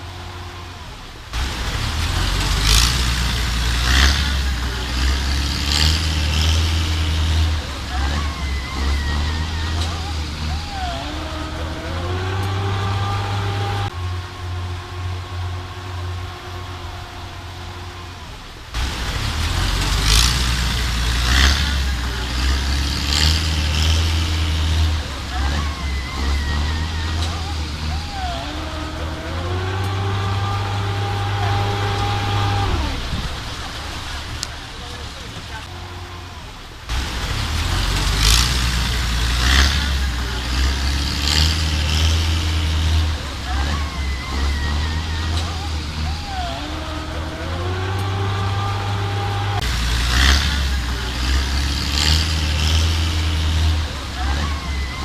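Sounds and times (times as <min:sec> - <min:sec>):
engine humming: 0:00.0 - 0:55.0
rushing noise: 0:00.0 - 0:55.0.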